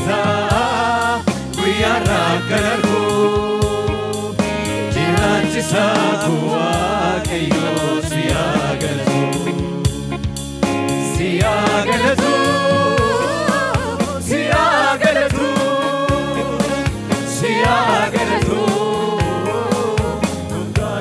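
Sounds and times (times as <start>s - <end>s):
choir singing: 0.0s - 10.1s, 10.9s - 21.0s
lead singer singing: 0.0s - 10.2s, 10.9s - 21.0s
amplified instrumental backing: 0.0s - 21.0s.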